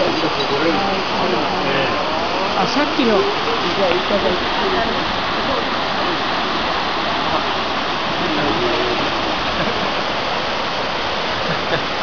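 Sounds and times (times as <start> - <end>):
rapids rushing water: 0.0 - 12.0.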